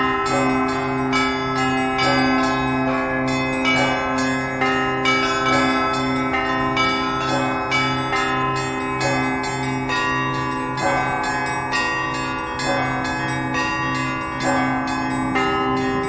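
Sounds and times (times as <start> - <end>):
large bells humming: 0.0 - 16.0
small church bells ringing: 0.0 - 16.0.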